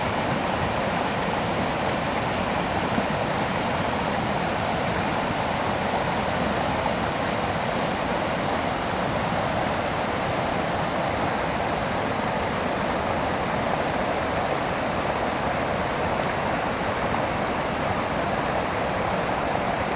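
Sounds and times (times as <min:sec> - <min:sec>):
stream rushing over waterfall: 0:00.0 - 0:19.9.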